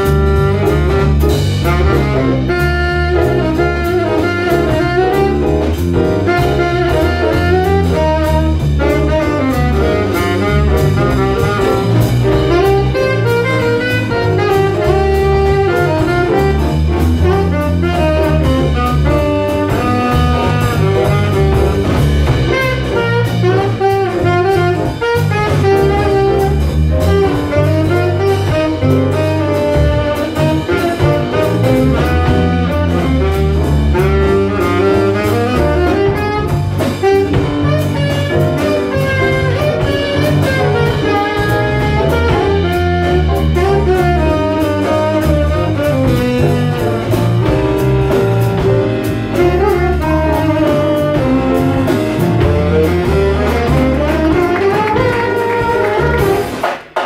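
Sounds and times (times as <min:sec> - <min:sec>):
electric bass: 0:00.0 - 0:56.6
drum kit: 0:00.0 - 0:57.0
piano: 0:00.0 - 0:57.0
saxophone lead line: 0:00.0 - 0:57.0.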